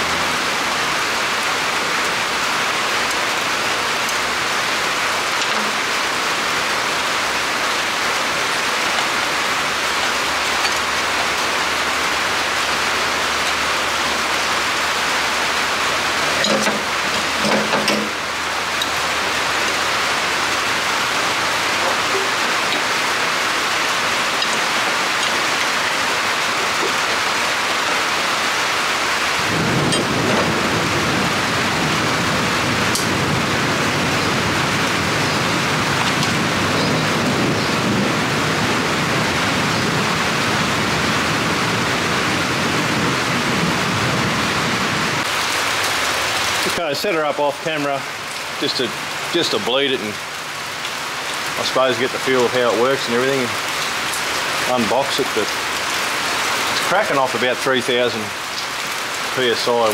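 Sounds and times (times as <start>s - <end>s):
heavy rain on a roof: 0.0s - 59.9s.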